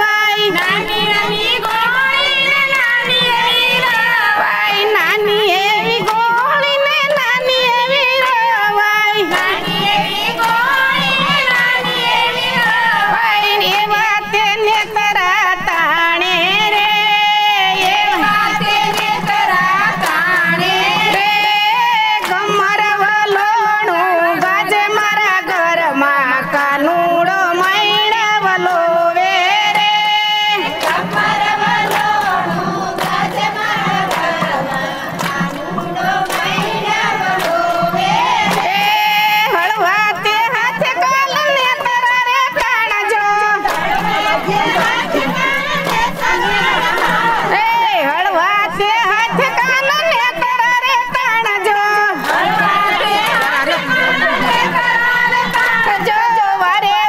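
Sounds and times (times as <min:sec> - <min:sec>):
hand-clapping: 0:00.0 - 0:57.0
music: 0:00.0 - 0:57.0
women singing devotional song: 0:00.0 - 0:57.0.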